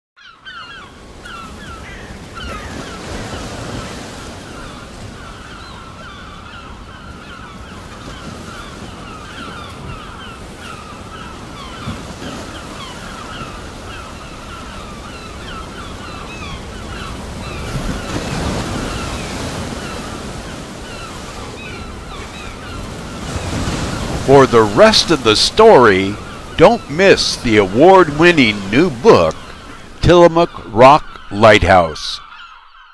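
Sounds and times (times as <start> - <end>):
birds crying: 0.2 - 32.9
ocean waves breaking: 0.4 - 32.7.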